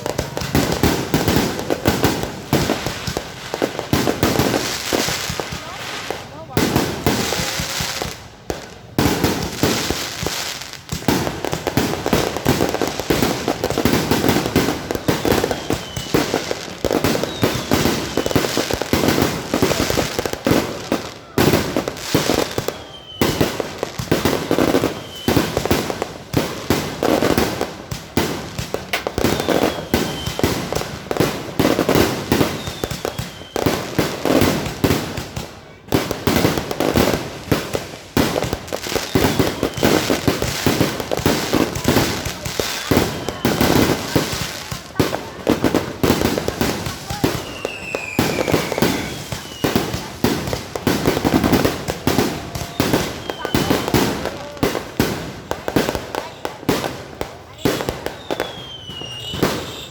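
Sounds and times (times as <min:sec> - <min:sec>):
fireworks bangs and crackling: 0:00.0 - 0:59.9
fireworks falling whistles: 0:00.0 - 0:59.9.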